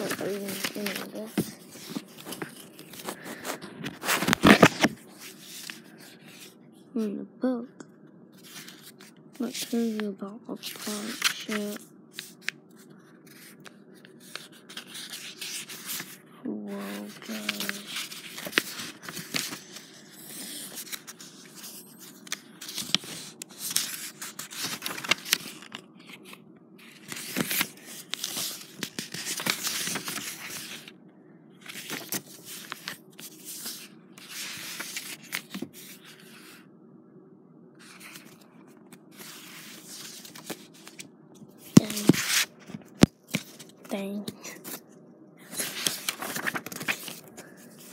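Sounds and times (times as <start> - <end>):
book pages rustling: 0.0 - 6.5, 8.3 - 30.9, 31.6 - 36.6, 37.8 - 44.8, 45.4 - 47.9.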